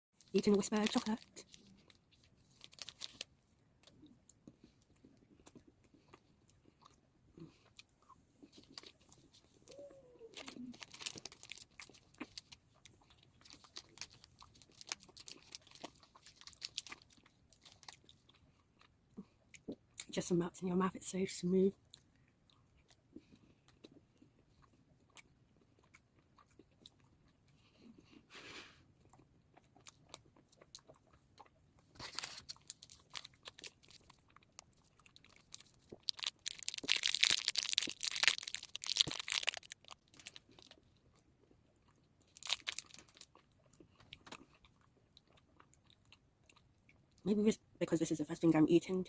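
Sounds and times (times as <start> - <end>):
chocolate bar bites and chewing: 0.3 - 20.1, 21.8 - 27.6, 29.0 - 47.1.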